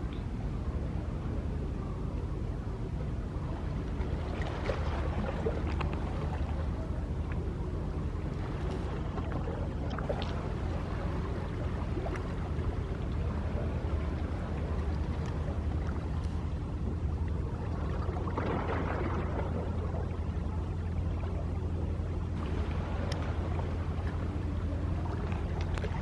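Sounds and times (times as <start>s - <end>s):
low rumble: 0.0s - 26.0s
small waves lapping: 3.2s - 26.0s.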